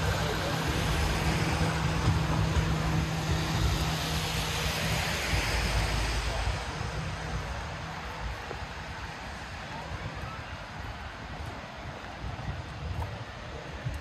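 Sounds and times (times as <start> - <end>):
rain and tyres on wet road: 0.0 - 14.0
vehicle engine humming: 0.0 - 14.0.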